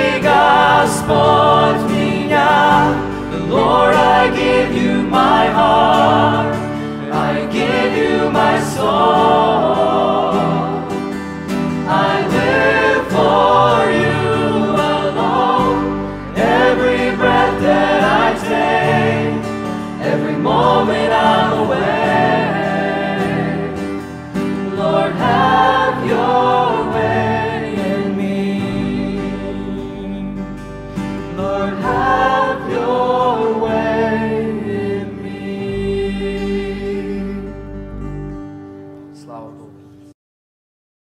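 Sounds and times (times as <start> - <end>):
choir singing gospel song: 0.0 - 38.1
instrumental backing: 0.0 - 40.1.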